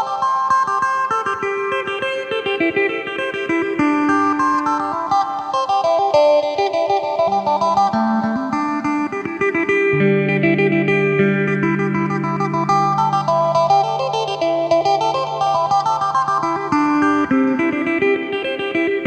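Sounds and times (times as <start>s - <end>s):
electric lute picked notes: 0.0s - 19.0s.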